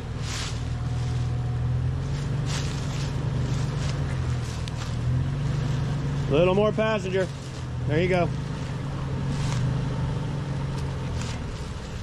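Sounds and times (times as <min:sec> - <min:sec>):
suv engine at low revs: 0:00.0 - 0:12.0.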